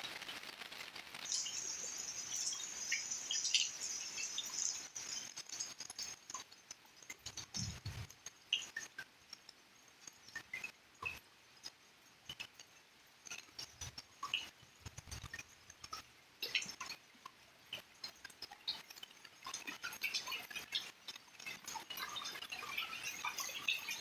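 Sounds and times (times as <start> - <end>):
raindrops dripping and tapping: 0.0 - 24.0.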